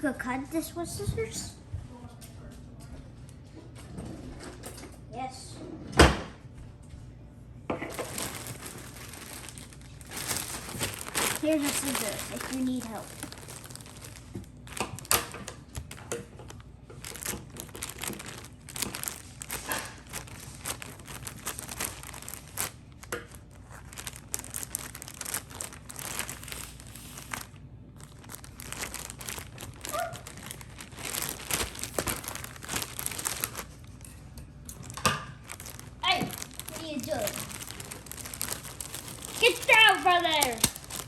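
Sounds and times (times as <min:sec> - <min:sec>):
packaging crinkling and tearing: 0:07.8 - 0:41.0.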